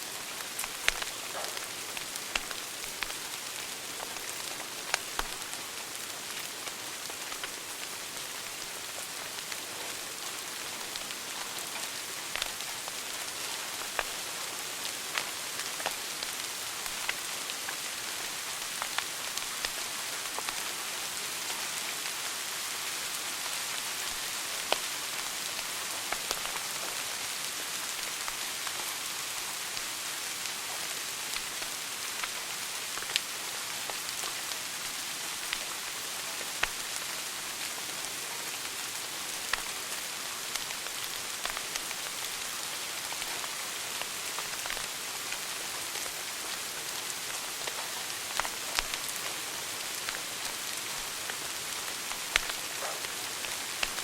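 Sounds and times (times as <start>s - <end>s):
fire crackling and popping: 0.1s - 20.8s, 22.5s - 54.0s.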